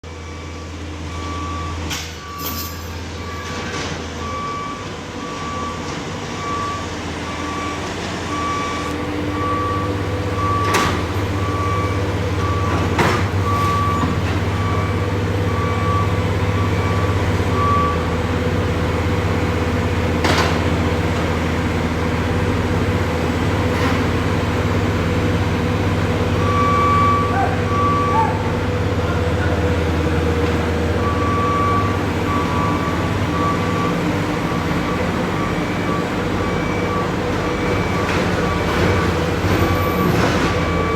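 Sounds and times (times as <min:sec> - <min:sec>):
diesel engine running under load: 0:00.0 - 0:40.9
backup alarm beeping: 0:00.2 - 0:19.8, 0:25.6 - 0:40.9.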